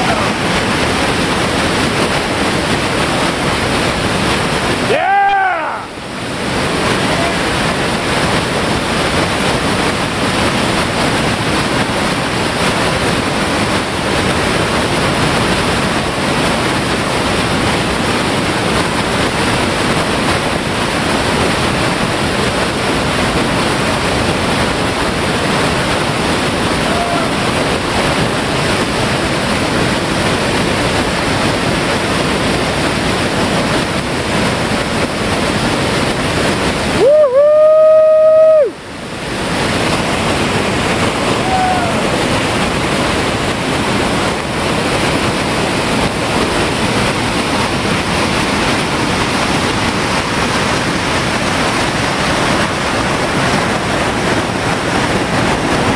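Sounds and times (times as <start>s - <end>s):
whitewater rushing: 0.0s - 55.9s.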